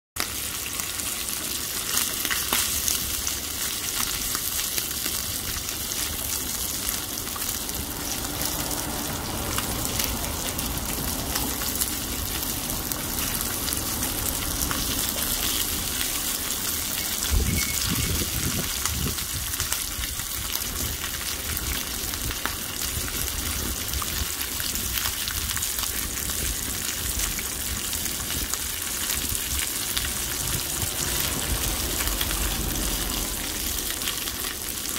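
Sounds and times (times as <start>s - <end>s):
bacon sizzling on a griddle: 0.2s - 34.9s.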